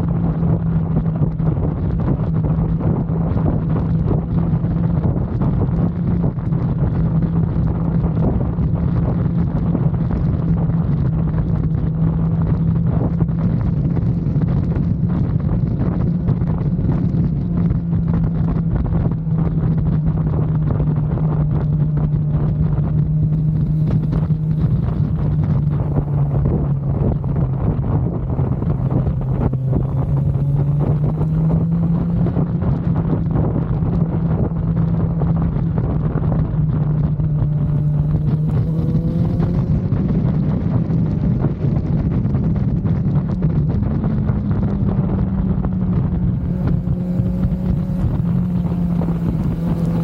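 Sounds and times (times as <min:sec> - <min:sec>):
motorcycle engine running: 0:00.0 - 0:50.0
wind rush on microphone: 0:00.0 - 0:50.0.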